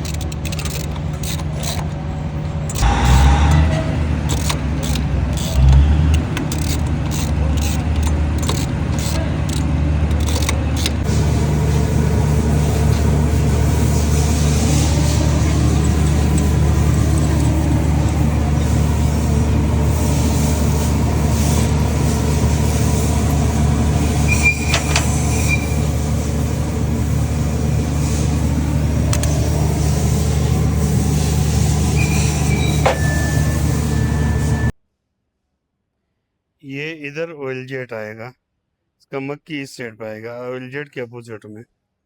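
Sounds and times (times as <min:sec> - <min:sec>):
machinery droning: 0:00.0 - 0:34.7.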